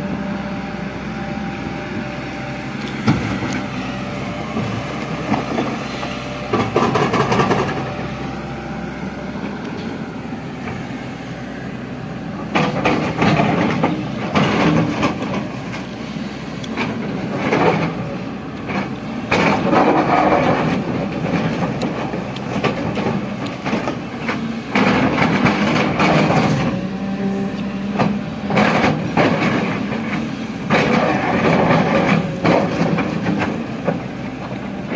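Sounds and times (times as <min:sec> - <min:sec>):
excavator diesel engine surging: 0:00.0 - 0:34.9.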